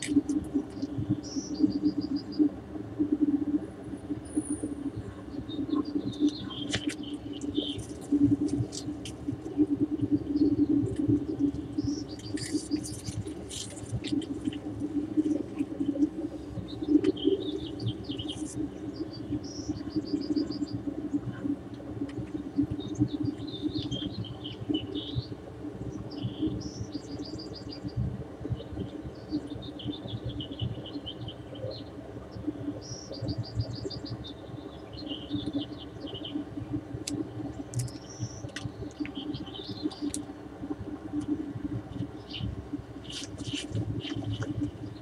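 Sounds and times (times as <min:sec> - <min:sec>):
steady low rumble: 0:00.0 - 0:45.0
small birds chirping: 0:00.1 - 0:02.4, 0:05.2 - 0:20.9, 0:22.3 - 0:28.0, 0:28.6 - 0:40.3, 0:41.2 - 0:45.0.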